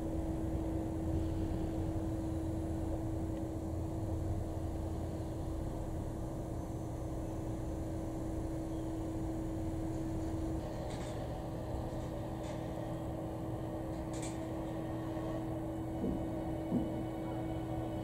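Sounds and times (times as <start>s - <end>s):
train equipment humming: 0.0s - 18.0s.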